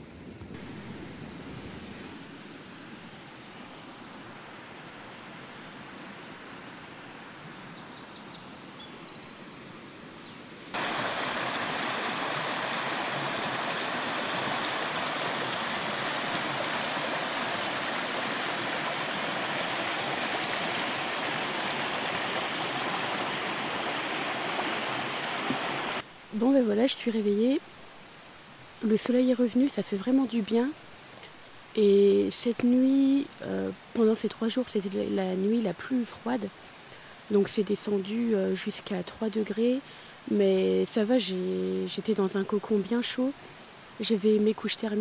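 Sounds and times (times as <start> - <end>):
rushing water: 0.5 - 7.6, 10.4 - 45.0.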